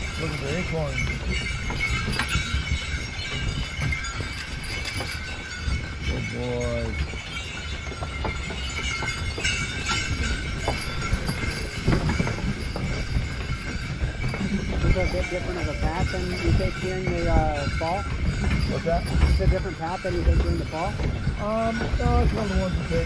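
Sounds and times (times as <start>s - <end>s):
harness jingle bells ringing: 0.0s - 23.0s
sleigh running through snow: 0.0s - 23.0s.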